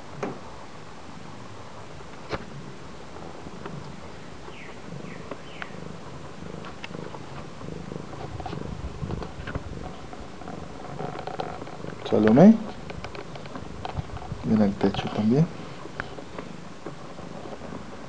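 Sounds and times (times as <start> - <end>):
cat purring: 2.5 - 18.0.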